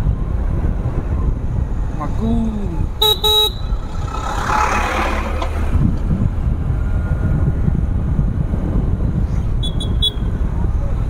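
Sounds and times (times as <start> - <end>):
motorcycle engine rumbling: 0.0 - 11.0
wind buffeting microphone: 0.0 - 11.0.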